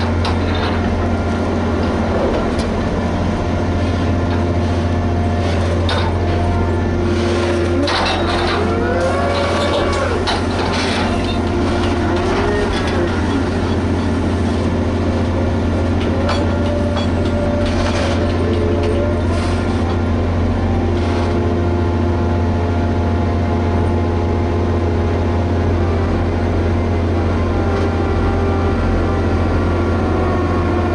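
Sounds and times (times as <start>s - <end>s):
dragline engine hum: 0.0s - 30.9s.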